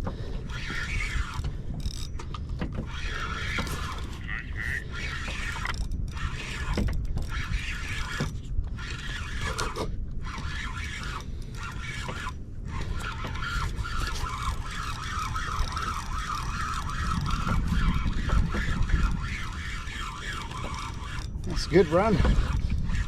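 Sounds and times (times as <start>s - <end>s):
fishing reel drag buzzing: 0.1s - 23.0s.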